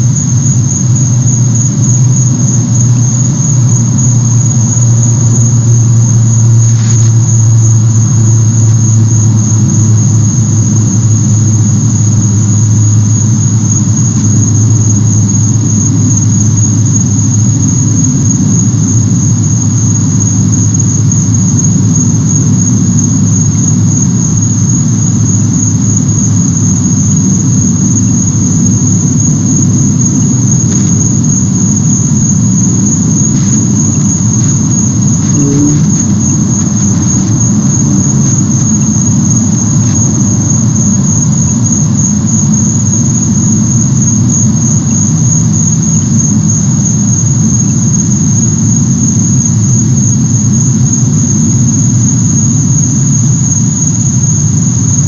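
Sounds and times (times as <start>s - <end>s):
high-pitched whine: 0.0s - 55.0s
machine hum: 0.0s - 55.0s.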